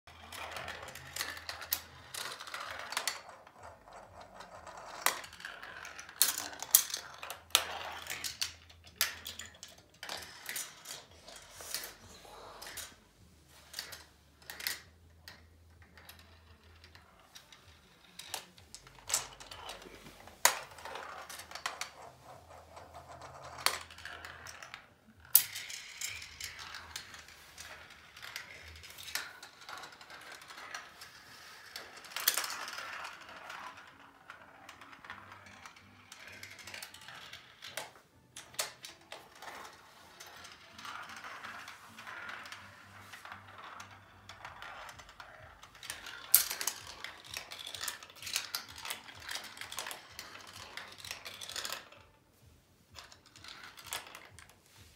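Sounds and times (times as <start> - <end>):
marbles clicking against track: 0.1 - 52.1, 52.9 - 54.9
marbles rolling on plastic track: 0.1 - 54.9.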